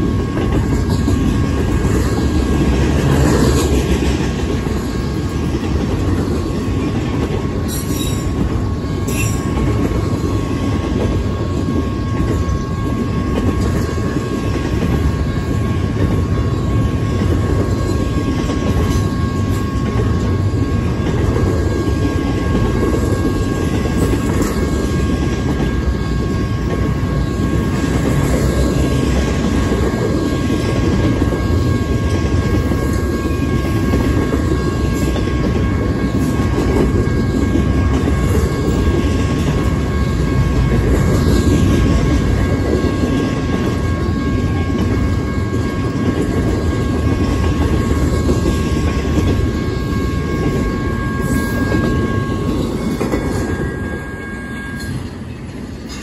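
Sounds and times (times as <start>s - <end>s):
train wheels rumbling on rail: 0.0s - 56.0s
high ringing tone: 7.5s - 56.0s.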